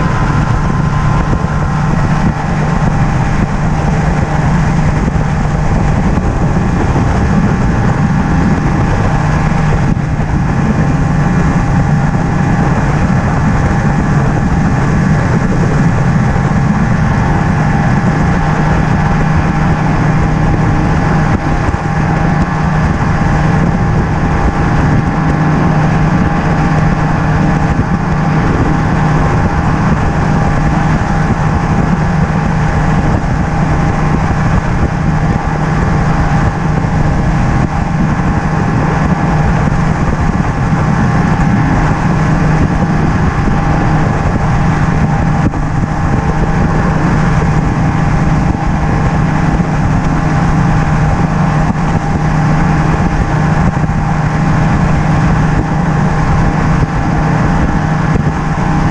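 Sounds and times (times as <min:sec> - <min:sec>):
outboard motor running: 0:00.0 - 0:58.9
wind rushing: 0:00.0 - 0:58.9.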